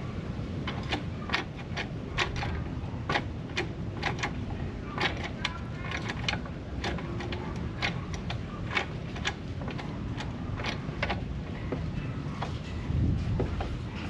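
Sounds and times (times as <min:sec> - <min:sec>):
steady low hum: 0:00.0 - 0:14.0
metal tools clicking and knocking: 0:00.6 - 0:12.8.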